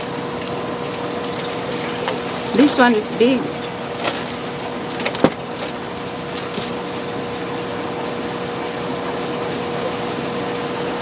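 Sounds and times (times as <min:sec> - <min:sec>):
aquarium pumps humming: 0:00.0 - 0:11.0.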